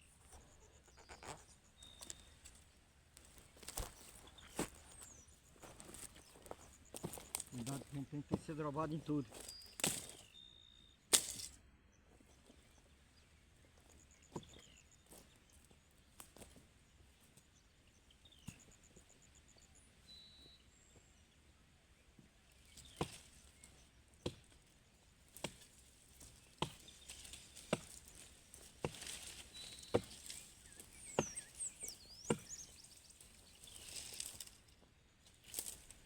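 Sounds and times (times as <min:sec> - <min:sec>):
birds chirping: 0:00.0 - 0:11.0, 0:12.1 - 0:24.9, 0:25.7 - 0:36.0.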